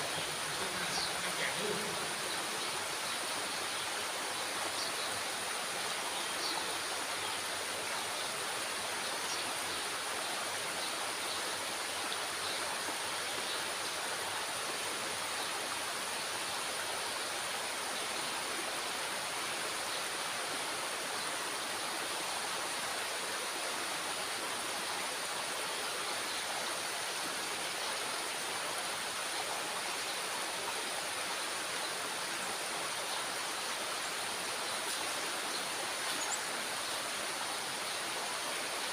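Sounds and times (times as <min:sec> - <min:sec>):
water rushing through spillway: 0:00.0 - 0:38.9.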